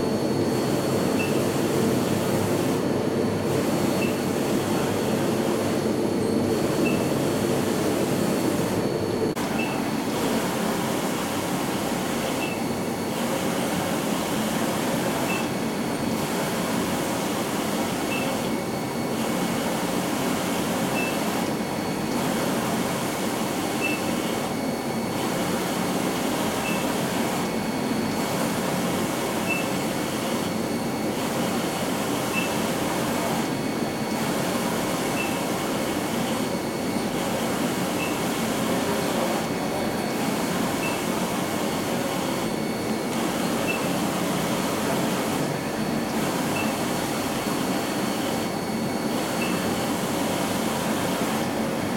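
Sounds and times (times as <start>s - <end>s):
printer whirring and hissing: 0.0s - 51.9s.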